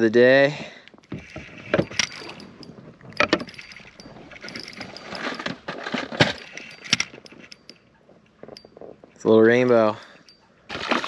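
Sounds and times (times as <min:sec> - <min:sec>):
fishing tackle knocks and clicks: 0:00.8 - 0:09.9.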